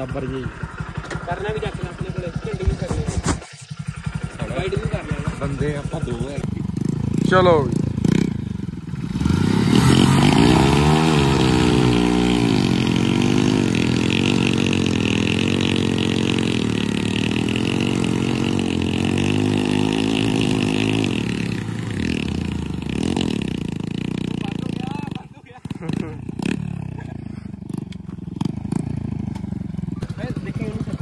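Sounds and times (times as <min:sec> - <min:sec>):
motorcycles revving hard: 0:00.0 - 0:31.0.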